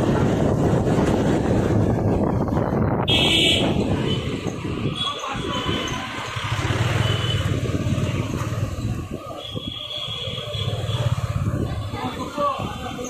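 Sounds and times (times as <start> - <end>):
motorcycle engine: 0.0 - 12.4
wind on microphone: 0.0 - 13.0.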